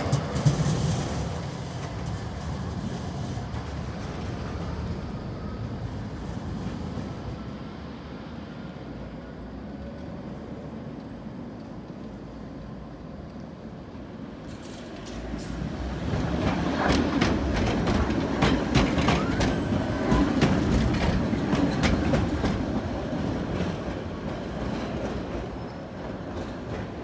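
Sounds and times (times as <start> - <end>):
tram wheels clattering over rails: 0.0 - 7.6, 9.8 - 27.0.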